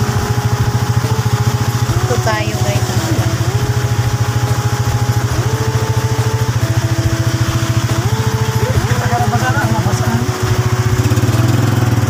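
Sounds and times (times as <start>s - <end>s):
rain hissing: 0.0s - 12.0s
small motorcycle engine running: 0.0s - 12.0s.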